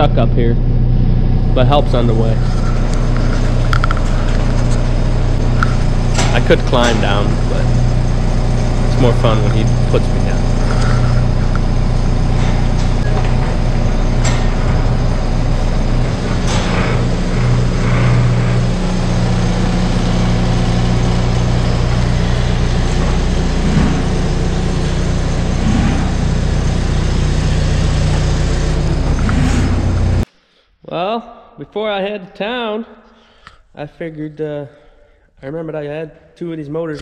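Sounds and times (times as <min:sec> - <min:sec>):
farm machine engine running: 0:00.0 - 0:30.2.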